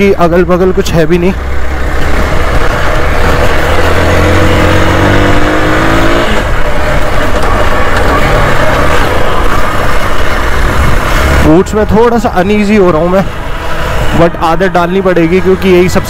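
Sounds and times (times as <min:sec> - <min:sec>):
steady rushing noise: 0:00.0 - 0:16.0
motorcycle engine revving: 0:01.4 - 0:16.0.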